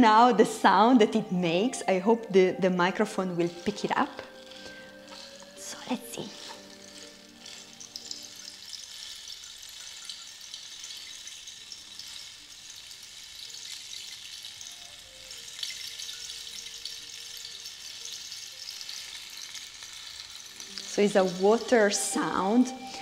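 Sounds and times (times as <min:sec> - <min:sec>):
rainstick pebbles trickling: 0:02.8 - 0:23.0.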